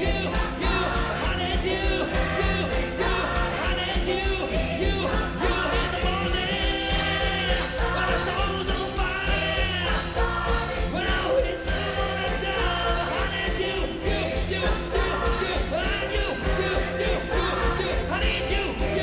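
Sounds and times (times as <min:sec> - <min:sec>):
drums and bass beat: 0:00.0 - 0:19.0
male singers: 0:00.0 - 0:19.0.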